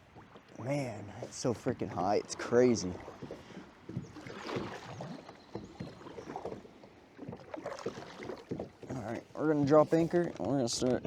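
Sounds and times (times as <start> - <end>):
paddle strokes splashing in water: 0.0 - 10.5.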